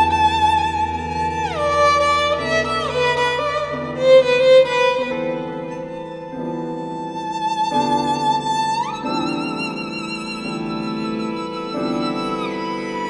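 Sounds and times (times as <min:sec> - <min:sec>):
violin playing sustained notes: 0:00.0 - 0:13.0.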